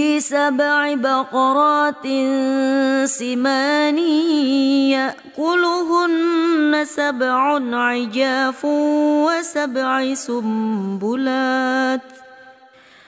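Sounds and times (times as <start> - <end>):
woman reciting melodically: 0.0 - 12.6.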